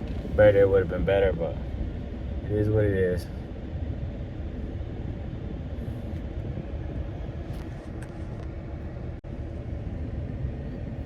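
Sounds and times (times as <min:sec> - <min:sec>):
road and tyre rumble: 0:00.0 - 0:11.0.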